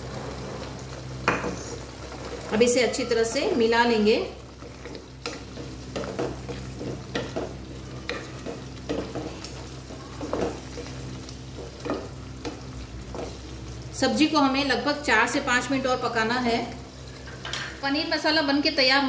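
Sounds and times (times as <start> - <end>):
steady low hum: 0.0 - 18.5
gravy sizzling: 0.0 - 19.0.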